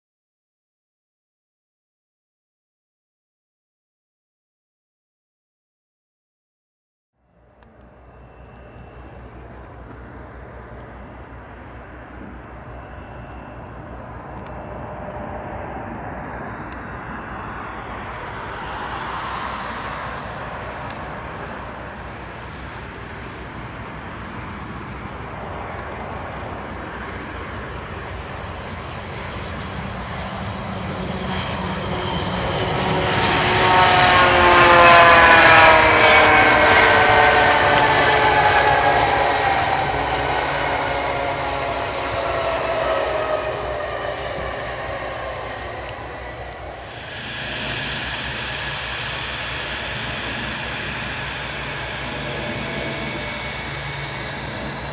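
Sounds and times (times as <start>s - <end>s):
jet engines of landing airliner: 7.2s - 54.9s
whining engine tones: 7.2s - 54.9s.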